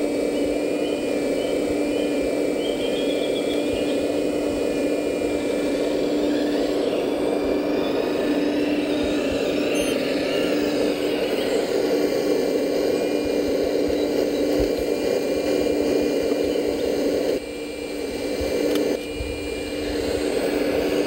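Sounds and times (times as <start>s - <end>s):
hydraulic pump whine: 0.0s - 21.0s.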